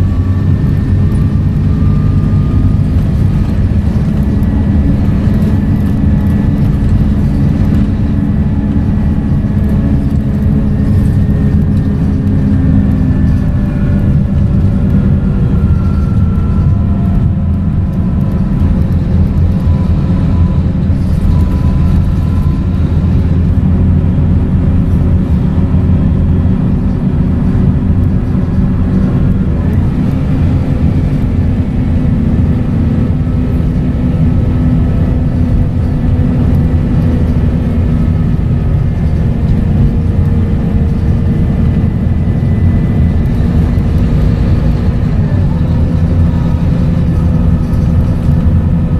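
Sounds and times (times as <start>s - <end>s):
bus diesel engine drone: 0.0s - 48.9s.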